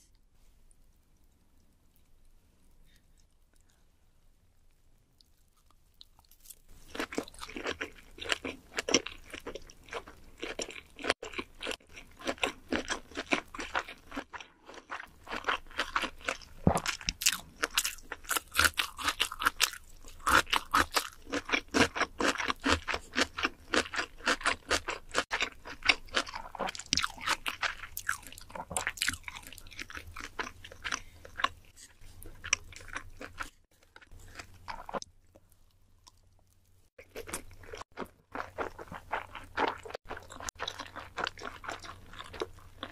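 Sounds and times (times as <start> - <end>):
person chewing with wet clicks: 5.2 - 42.9.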